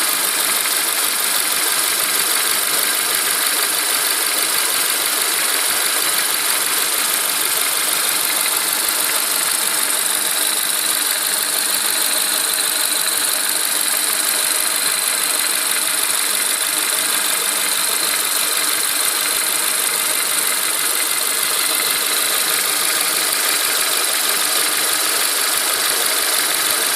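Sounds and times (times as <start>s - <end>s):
car engine running: 0.0s - 26.9s
rapid engine knocking: 0.0s - 26.9s.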